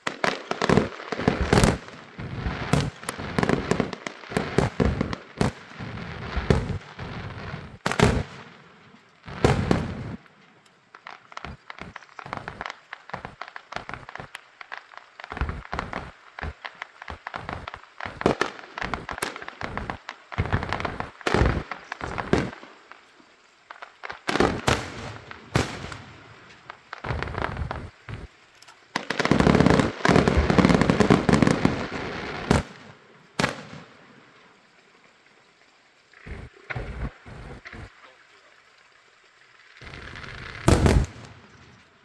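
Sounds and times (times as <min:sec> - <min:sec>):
fireworks and firecrackers bangs: 0:00.0 - 0:34.7, 0:36.3 - 0:37.9, 0:39.8 - 0:42.0.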